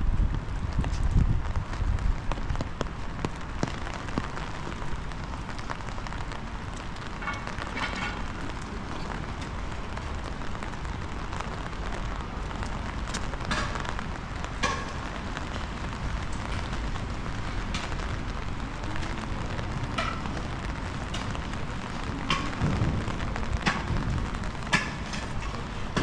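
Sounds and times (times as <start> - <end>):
rain falling on street: 0.0 - 26.0
wind rumble on microphone: 0.0 - 26.0.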